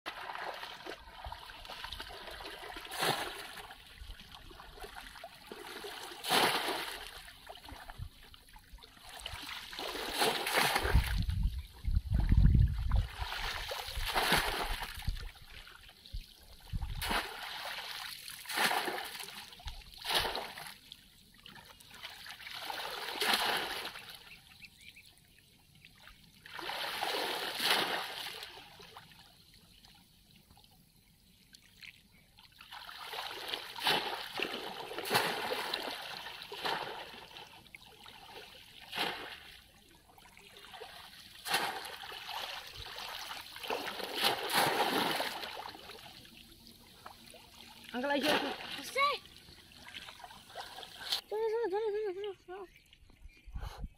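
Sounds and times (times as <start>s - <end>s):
shallow water splashing: 0.1s - 11.4s, 12.1s - 24.4s, 25.9s - 29.2s, 32.5s - 51.3s.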